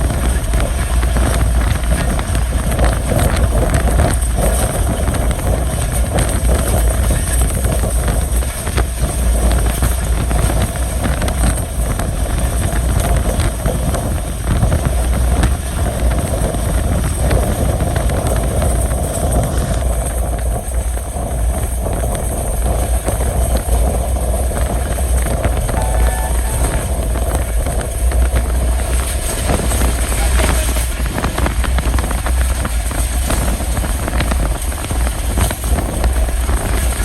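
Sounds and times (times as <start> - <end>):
train rumble on board: 0.0 - 37.0
wheels clicking over track: 0.0 - 37.0.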